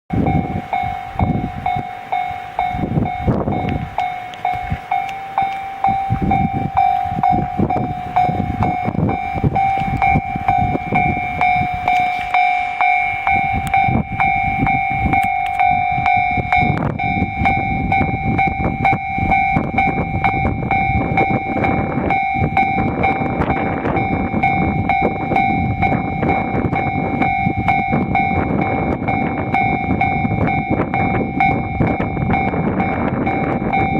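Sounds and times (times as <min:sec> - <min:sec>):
passing train rumbling: 0:00.1 - 0:33.9
railroad crossing bell ringing: 0:00.1 - 0:33.9.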